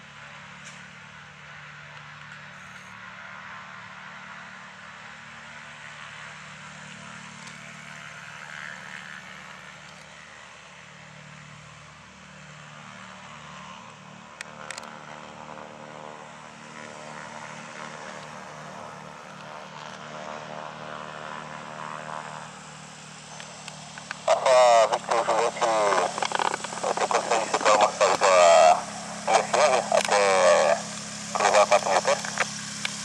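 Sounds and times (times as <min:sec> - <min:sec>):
aircraft engines humming: 0:00.0 - 0:33.0.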